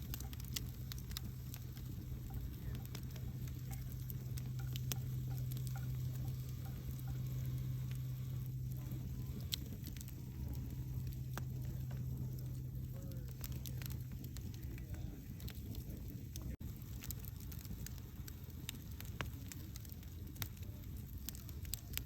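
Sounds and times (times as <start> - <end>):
campfire crackling and popping: 0.0 - 22.0
steady low hum: 0.0 - 22.0.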